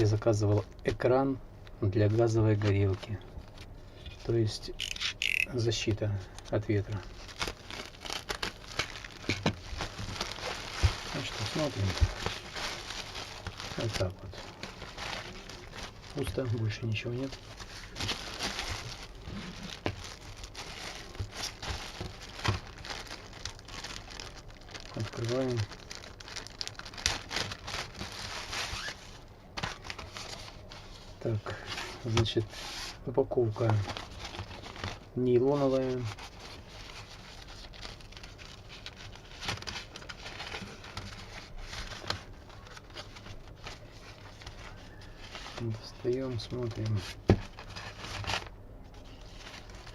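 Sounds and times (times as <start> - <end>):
plastic packaging crinkling: 2.2 - 49.9.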